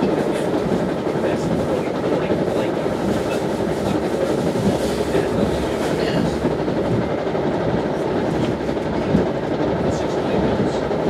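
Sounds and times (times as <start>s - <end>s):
train rumbling over rails: 0.0s - 11.0s.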